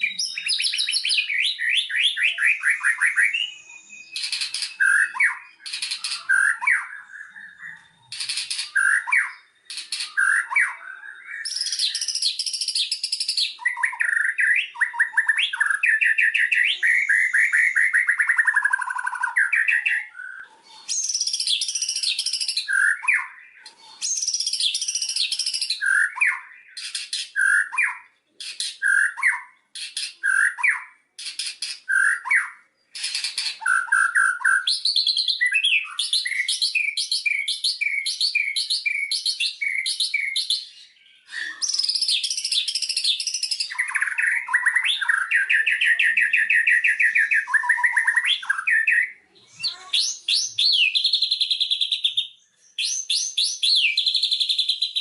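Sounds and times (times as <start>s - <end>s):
bird singing whistled phrases and trills: 0.0s - 55.0s.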